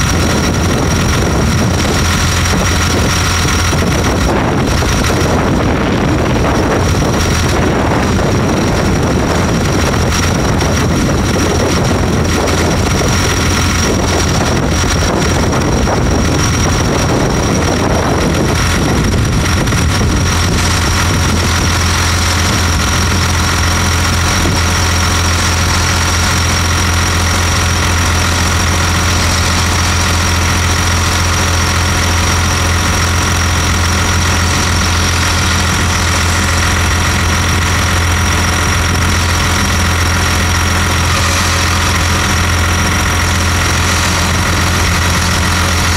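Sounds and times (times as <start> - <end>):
high whine: 0.0 - 45.9
low engine drone: 0.0 - 45.9.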